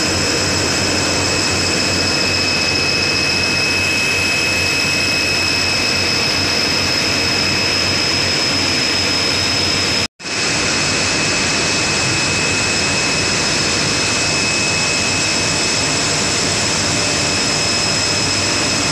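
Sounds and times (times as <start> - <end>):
high-pitched machine whines: 0.0 - 18.9
spinning mill machinery din: 0.0 - 18.9.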